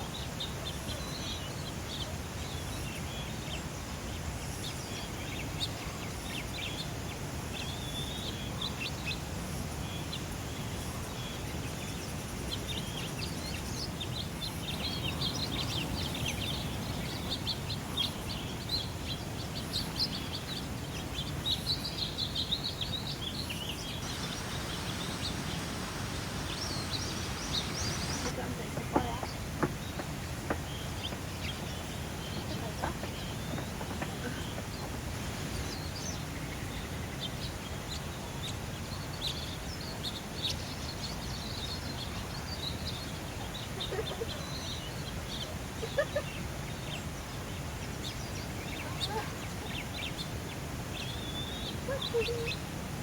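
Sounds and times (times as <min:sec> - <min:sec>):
low rushing background noise: 0:00.0 - 0:51.8
small birds chirping: 0:00.0 - 0:52.8.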